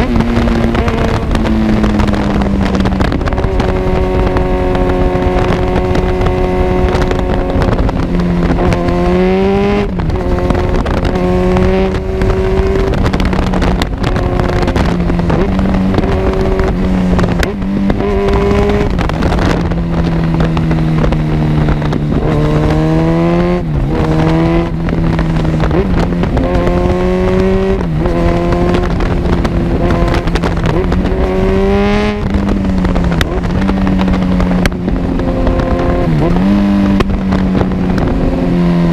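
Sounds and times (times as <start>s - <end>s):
exhaust cracks: 0.0s - 38.9s
motorcycle engine revving: 0.0s - 38.9s
wind noise: 0.0s - 38.9s.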